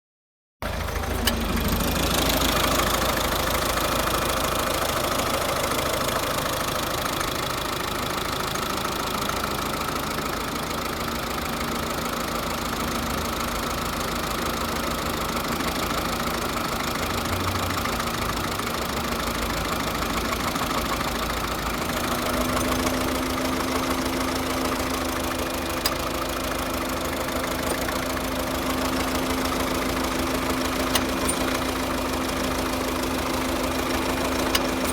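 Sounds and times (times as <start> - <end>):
diesel engine idling with misfire: 0.6 - 34.9.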